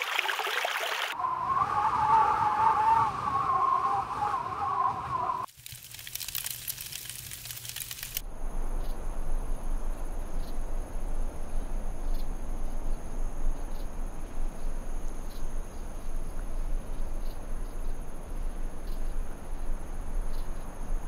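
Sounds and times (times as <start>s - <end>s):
crickets trilling: 1.2s - 21.0s.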